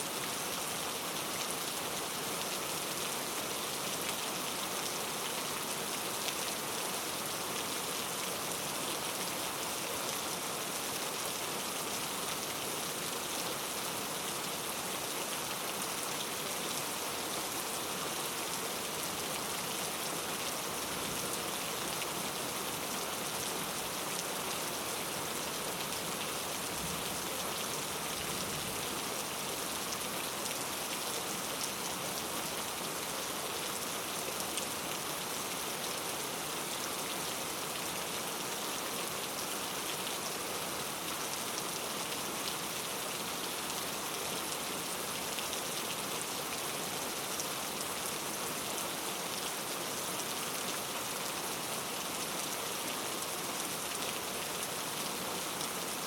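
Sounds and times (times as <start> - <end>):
rain patter on foliage: 0.0 - 56.0.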